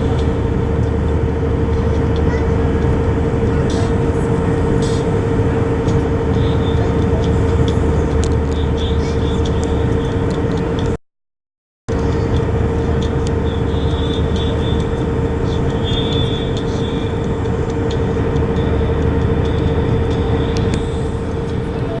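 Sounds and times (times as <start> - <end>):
jet engine cabin drone: 0.0 - 11.0, 11.9 - 22.0.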